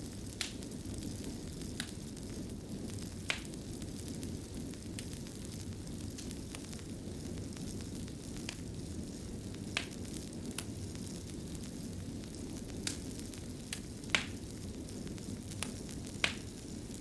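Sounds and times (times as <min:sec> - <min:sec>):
sharp pops of fire: 0:00.0 - 0:17.0
wood fire crackling: 0:00.0 - 0:17.0.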